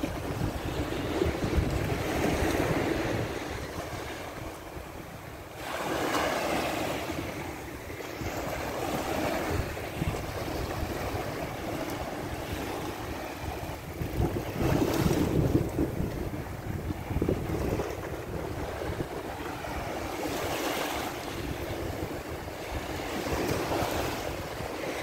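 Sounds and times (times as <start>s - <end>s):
small surf washing up beach: 0.0s - 25.0s
wind rushing over microphone: 0.0s - 25.0s.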